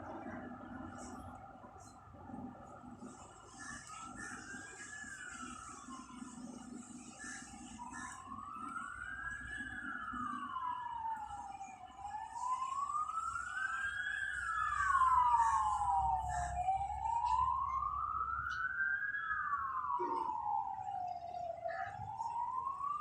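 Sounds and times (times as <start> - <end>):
emergency siren wailing: 0.0 - 23.0
low traffic rumble: 0.0 - 23.0.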